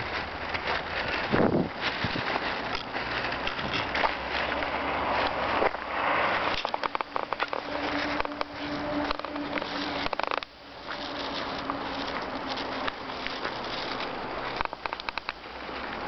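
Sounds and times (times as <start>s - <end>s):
footsteps crunching on snow: 0.0s - 16.0s
street noise: 0.0s - 16.0s.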